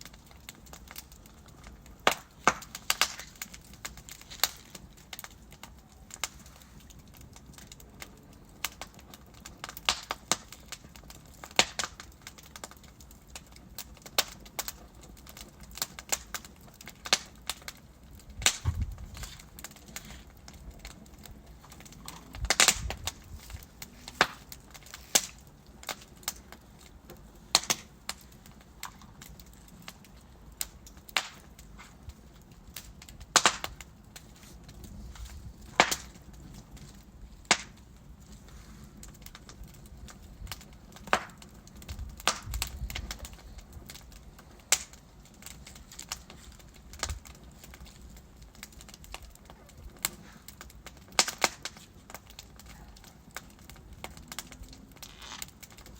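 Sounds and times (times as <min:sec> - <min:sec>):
fire hissing: 0:00.0 - 0:55.9
flames rumbling: 0:00.0 - 0:55.9
logs crackling and popping: 0:00.0 - 0:55.9.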